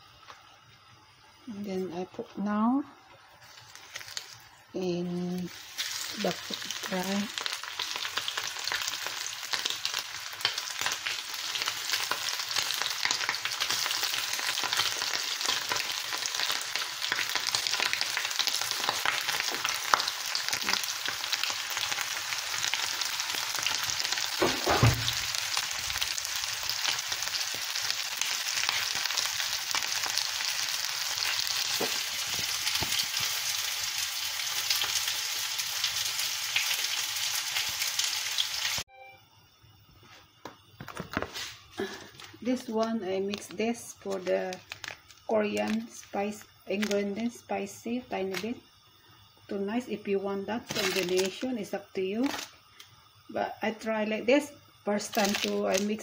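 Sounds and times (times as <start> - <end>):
chicken sizzling in hot oil: 3.2 - 38.9, 40.6 - 56.0.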